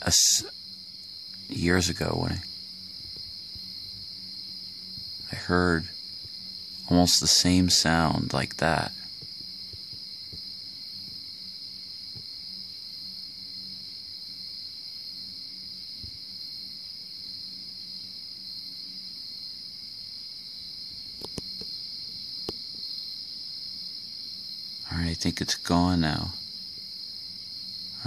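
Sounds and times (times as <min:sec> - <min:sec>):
faint low hum: 0:00.0 - 0:23.0
night insects chorus: 0:00.0 - 0:28.0.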